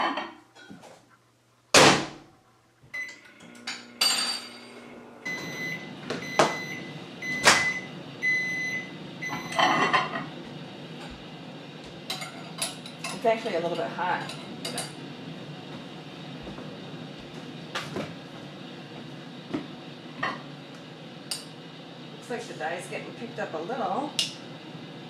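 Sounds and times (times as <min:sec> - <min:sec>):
microwave humming: 0:01.7 - 0:25.0.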